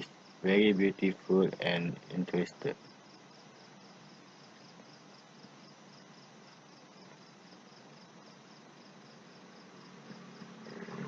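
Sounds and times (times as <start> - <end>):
faint insect chirping: 0.0 - 11.0
light hiss: 0.0 - 11.0.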